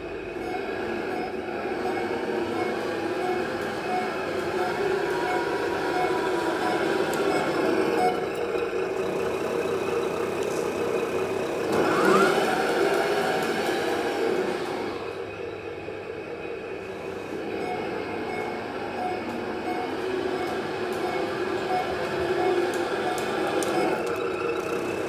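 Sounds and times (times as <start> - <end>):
simulated diesel engine running: 0.0 - 25.0.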